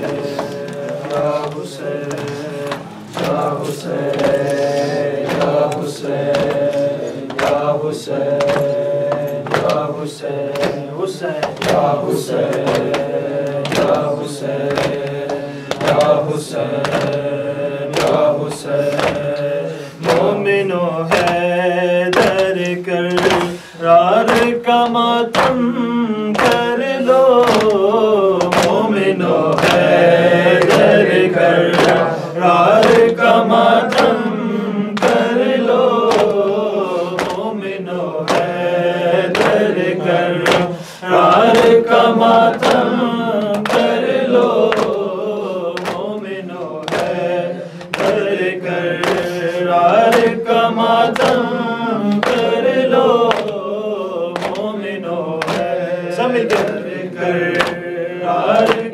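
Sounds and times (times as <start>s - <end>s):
hands slapping chests: 0.0s - 53.7s, 54.3s - 58.9s
men chanting a lament: 0.0s - 58.9s.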